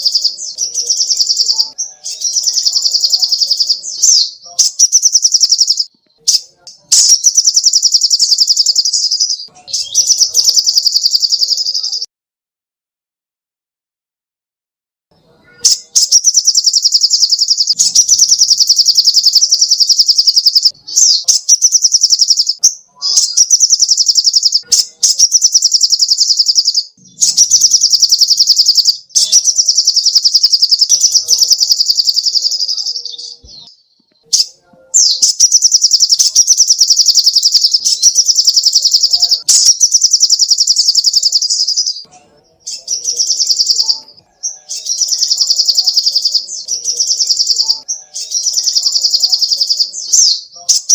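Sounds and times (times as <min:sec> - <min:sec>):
bird rapid high chips: 0:00.0 - 0:12.0, 0:15.6 - 0:33.3, 0:34.3 - 0:50.9.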